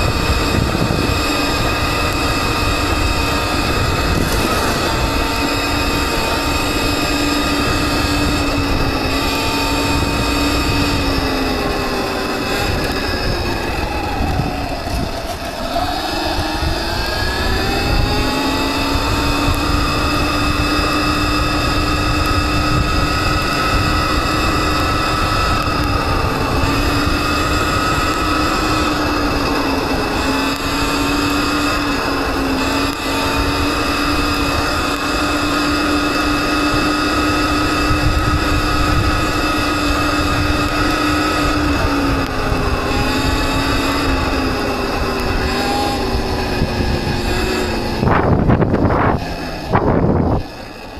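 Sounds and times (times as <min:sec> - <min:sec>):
electric motorbike motor whining: 0:00.0 - 0:50.9
wind and ground noise: 0:00.0 - 0:50.9.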